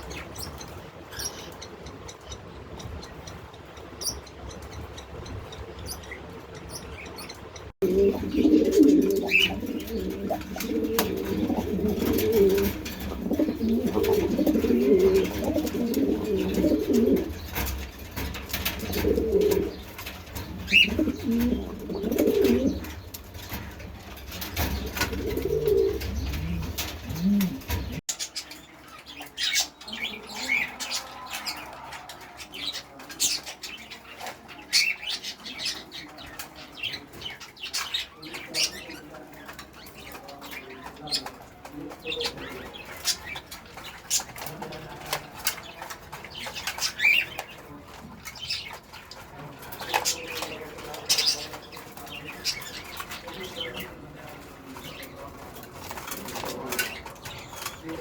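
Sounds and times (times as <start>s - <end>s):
pigeons cooing: 0.0s - 28.0s, 38.2s - 58.0s
birds chirping: 0.0s - 58.0s.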